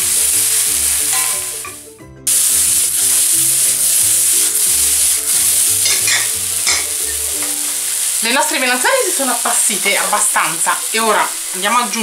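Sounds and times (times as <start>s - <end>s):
soft background music: 0.0s - 12.0s
vegetables sizzling in a pan: 0.0s - 12.0s.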